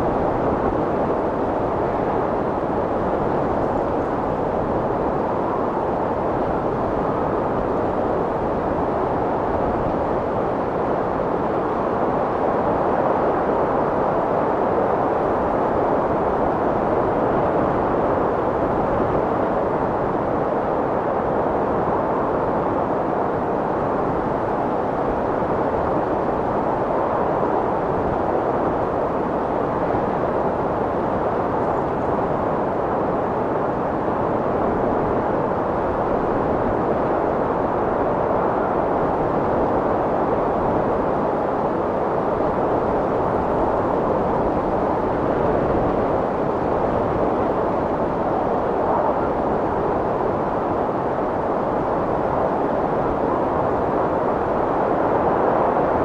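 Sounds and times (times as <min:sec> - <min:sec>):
strong wind blowing: 0:00.0 - 0:56.0.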